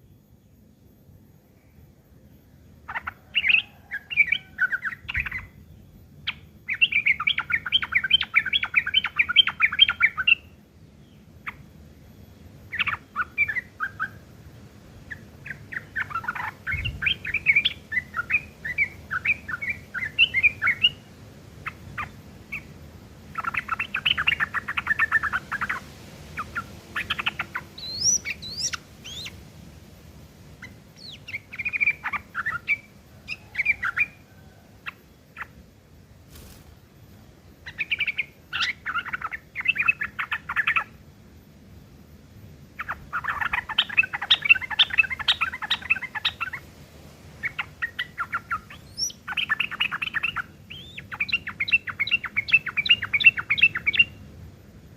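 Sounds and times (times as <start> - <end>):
bird chattering twitter: 2.8 - 14.4, 15.0 - 29.7, 30.4 - 35.7, 37.4 - 41.0, 42.8 - 46.7, 47.4 - 54.3.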